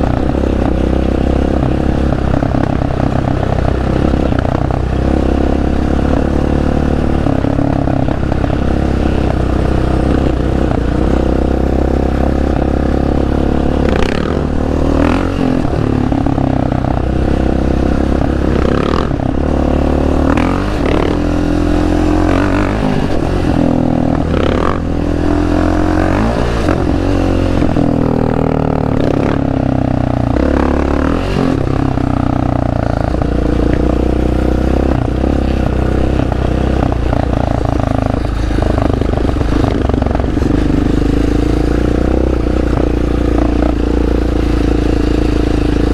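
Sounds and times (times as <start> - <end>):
atv engine revving: 0.0 - 45.9.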